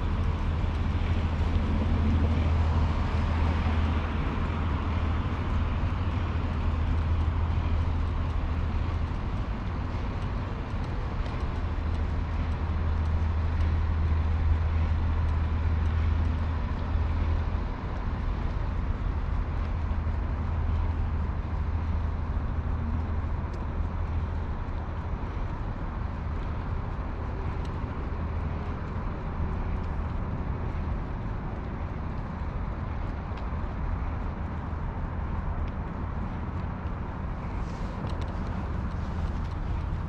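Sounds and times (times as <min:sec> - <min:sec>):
low outdoor rumble: 0:00.0 - 0:40.0.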